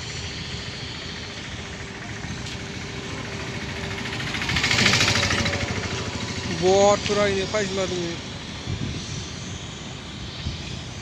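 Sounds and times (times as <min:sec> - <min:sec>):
auto-rickshaw engine running: 0:00.0 - 0:11.0.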